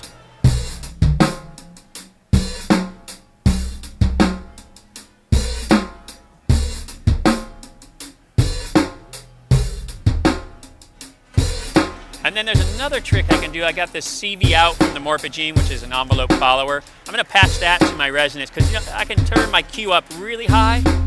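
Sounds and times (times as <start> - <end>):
filtered drum loop: 0.5 - 10.8, 11.4 - 21.0.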